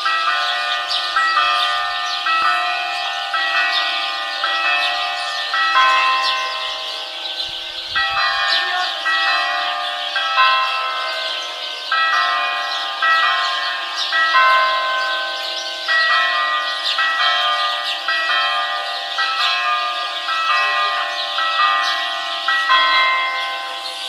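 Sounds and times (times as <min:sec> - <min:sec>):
birds chirping: 0:00.0 - 0:24.0
church bells pealing: 0:00.0 - 0:24.0.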